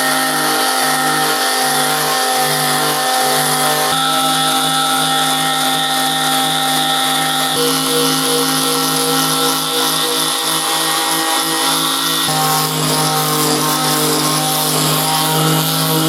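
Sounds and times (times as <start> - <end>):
electric sander grinding steel: 0.0 - 16.0.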